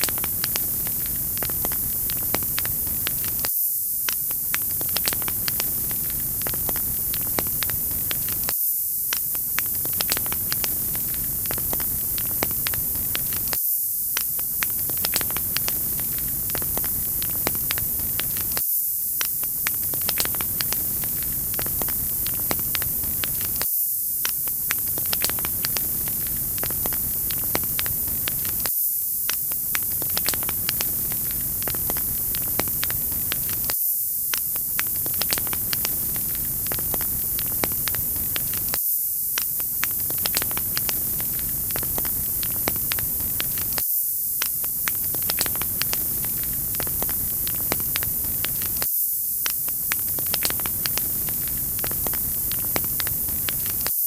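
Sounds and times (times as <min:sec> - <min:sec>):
wood fire crackling: 0:00.0 - 0:08.5, 0:09.1 - 0:18.6, 0:19.2 - 0:23.6, 0:24.2 - 0:28.7, 0:29.3 - 0:38.8, 0:39.4 - 0:43.8, 0:44.4 - 0:53.9.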